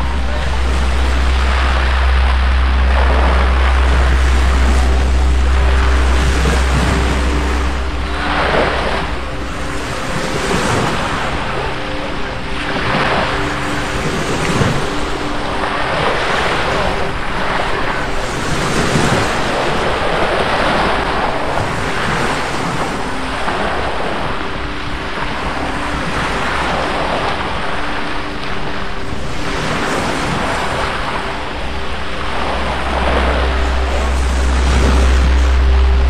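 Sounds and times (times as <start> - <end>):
faint steady hum: 0.0 - 36.0
sea waves breaking on shore: 0.0 - 36.0
wind buffeting microphone: 0.0 - 36.0.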